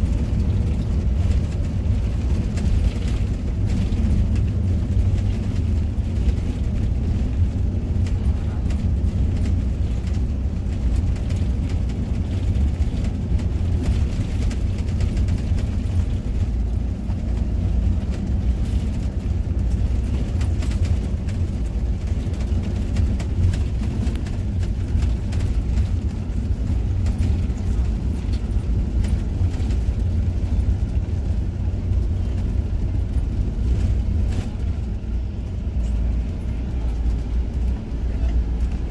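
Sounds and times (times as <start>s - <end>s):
coach engine and road rumble: 0.0s - 38.9s.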